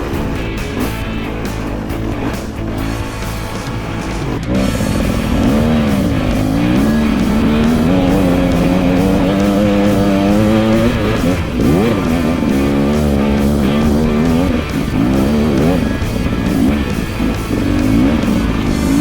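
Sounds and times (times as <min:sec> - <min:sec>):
background music with beat: 0:00.0 - 0:19.0
dirt bike engine revving: 0:00.0 - 0:19.0.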